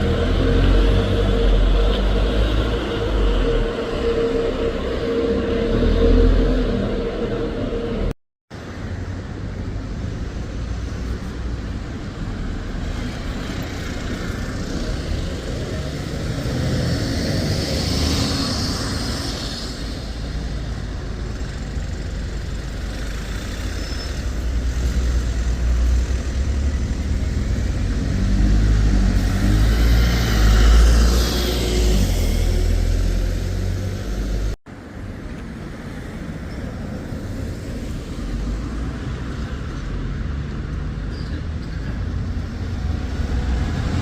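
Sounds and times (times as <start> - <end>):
road noise: 0.0 - 44.0.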